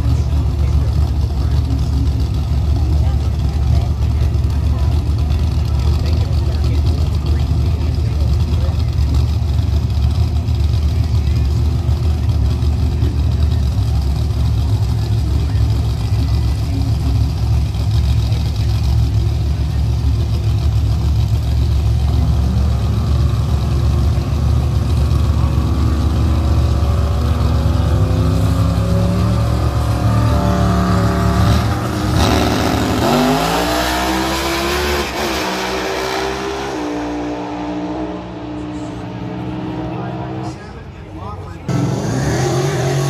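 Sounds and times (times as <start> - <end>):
drag racing car engines revving: 0.0 - 43.0.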